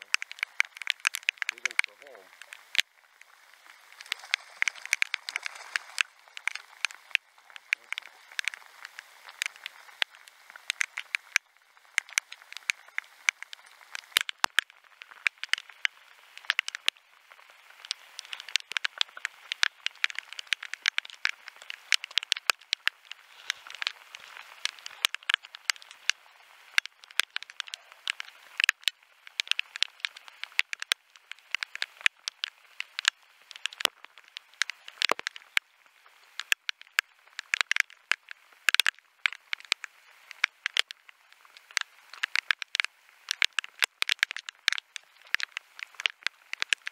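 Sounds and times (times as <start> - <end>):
rain hissing on river: 0.0 - 46.9
raindrops ticking on camera: 0.0 - 46.9.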